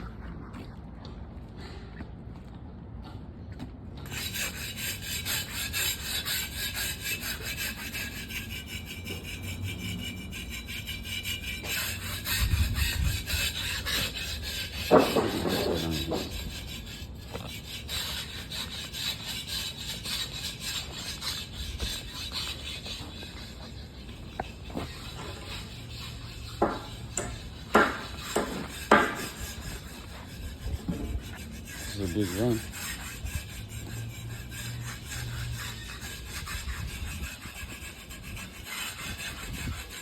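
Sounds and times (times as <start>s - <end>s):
rhythmic scraping on rough surface: 3.6s - 40.0s.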